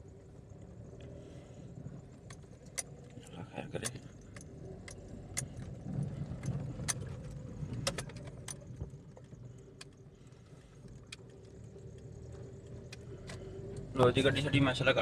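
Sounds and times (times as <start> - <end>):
small clicks and rattles: 0.0 - 14.8
engine and road rumble: 0.0 - 15.0
faint steady hum: 0.0 - 15.0.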